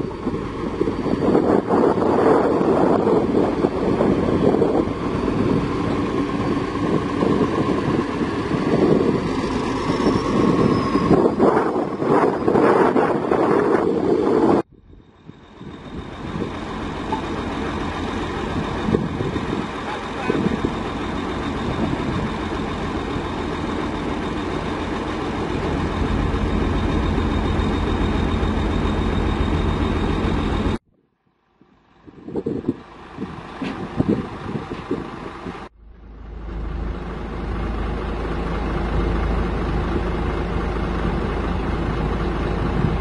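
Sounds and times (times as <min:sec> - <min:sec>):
diesel engine rumbling: 0:00.0 - 0:30.8, 0:31.6 - 0:43.0.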